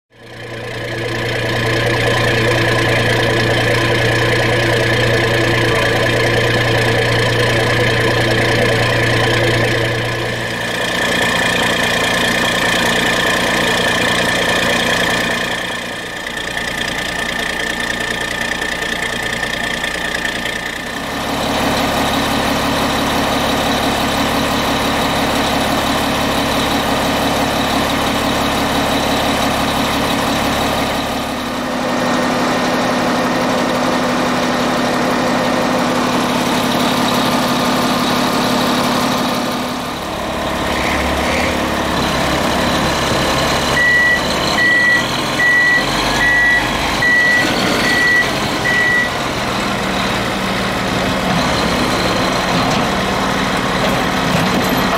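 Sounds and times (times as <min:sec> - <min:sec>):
diesel engines idling: 0:00.1 - 0:54.9.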